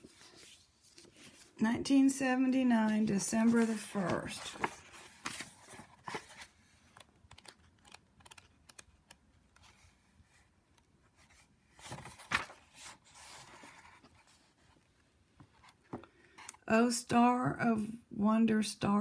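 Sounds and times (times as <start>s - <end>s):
book pages rustling: 0.0s - 2.1s, 2.8s - 16.4s.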